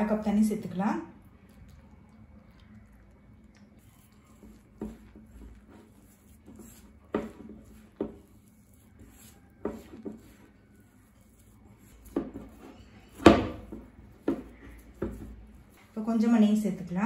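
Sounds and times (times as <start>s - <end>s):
hand squishing wet dough: 0.0s - 16.6s.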